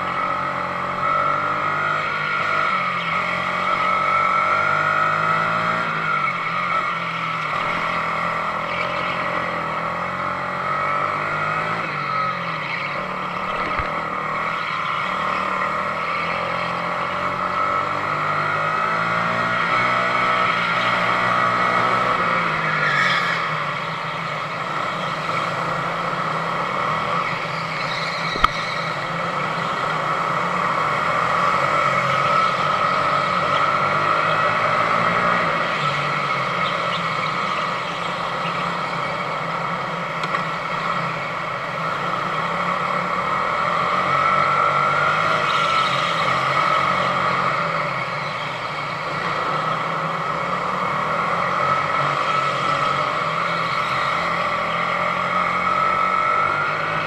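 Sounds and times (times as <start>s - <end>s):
go-kart engine at racing speed: 0.0s - 57.0s.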